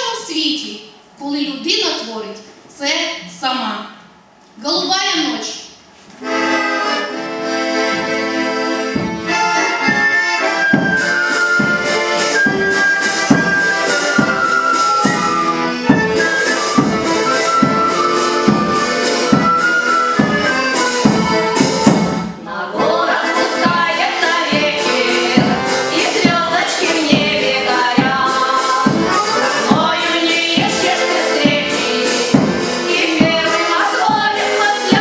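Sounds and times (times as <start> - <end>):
accordion music: 6.1 - 35.0.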